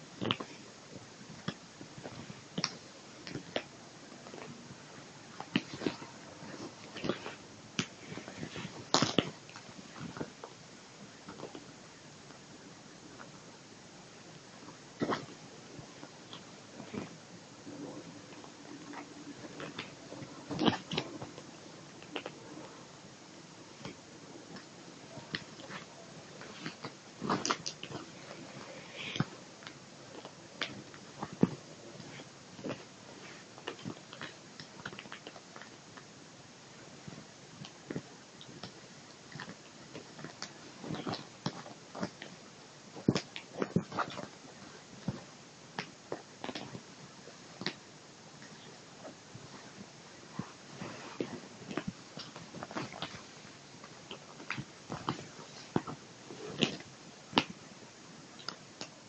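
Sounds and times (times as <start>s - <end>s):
fabric rustling: 0.0s - 13.5s, 14.5s - 36.0s, 36.7s - 59.0s.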